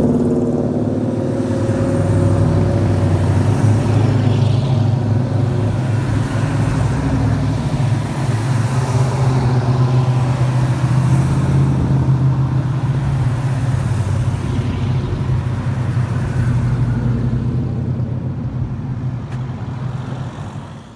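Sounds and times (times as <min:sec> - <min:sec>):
car engines rumbling: 0:00.0 - 0:20.9.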